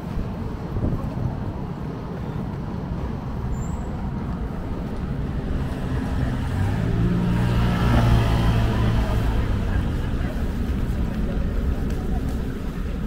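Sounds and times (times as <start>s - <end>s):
road traffic rumble: 0.0s - 13.0s
vehicle engine hum: 0.0s - 13.0s.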